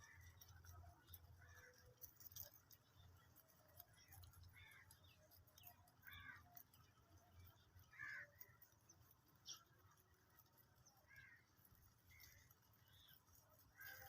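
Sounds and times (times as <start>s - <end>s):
faint ticks: 0.0s - 14.0s.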